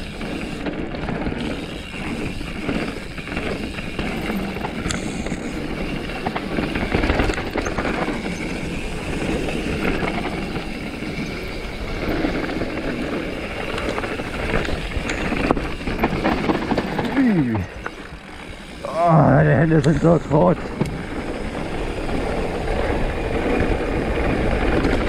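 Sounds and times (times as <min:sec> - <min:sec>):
bike rattling and knocking: 0:00.0 - 0:25.0
tyre noise on dirt: 0:00.0 - 0:25.0.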